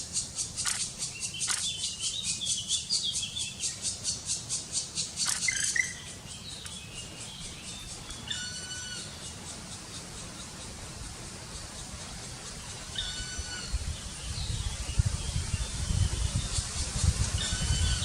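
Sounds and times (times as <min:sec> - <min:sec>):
woodpecker nestlings begging calls: 0:00.0 - 0:18.0.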